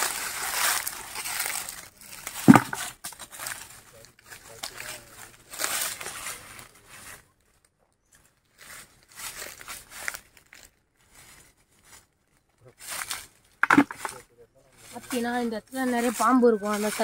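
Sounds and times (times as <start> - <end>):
dry leaves rustling and crunching: 0.0 - 14.2, 14.8 - 17.0.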